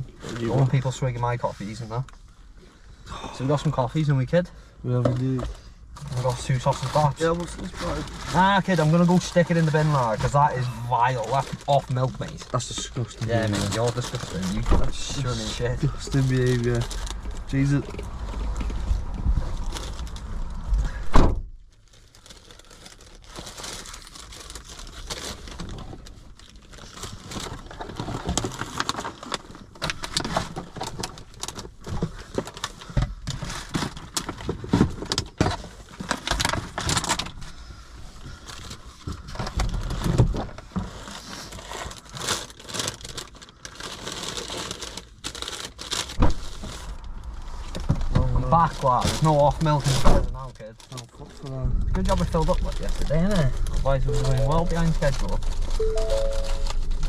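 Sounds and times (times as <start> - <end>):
rustling and crinkling packaging: 0.0 - 57.0.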